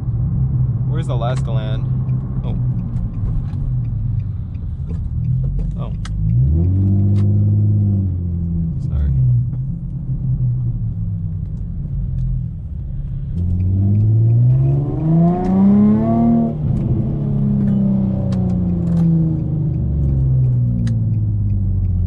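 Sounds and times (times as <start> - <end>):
car engine revving in cabin: 0.0 - 22.0.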